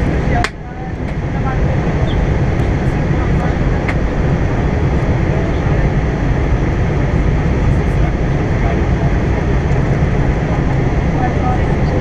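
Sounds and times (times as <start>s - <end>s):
jet engines humming: 0.0s - 12.0s
rushing airflow: 0.0s - 12.0s.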